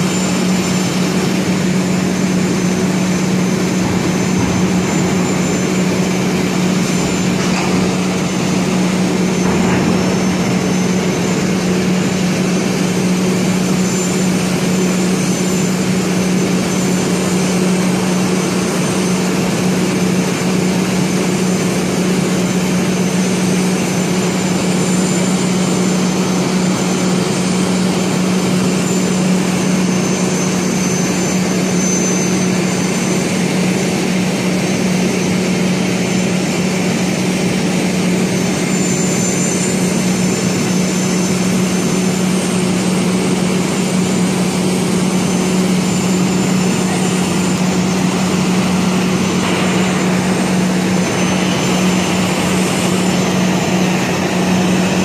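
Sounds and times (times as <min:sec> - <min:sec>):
mechanical drone with hiss: 0:00.0 - 0:55.0.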